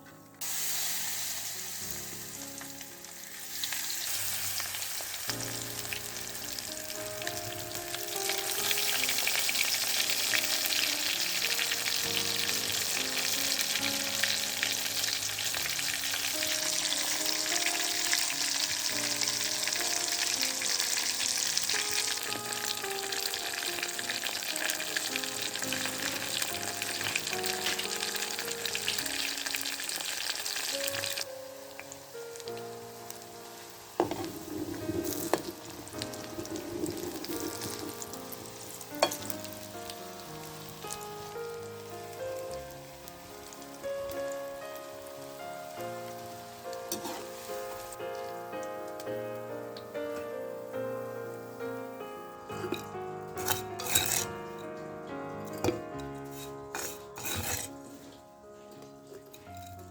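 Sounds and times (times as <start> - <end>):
hot oil sizzling in a pan: 0.4 - 54.7, 55.4 - 58.6, 59.3 - 59.9.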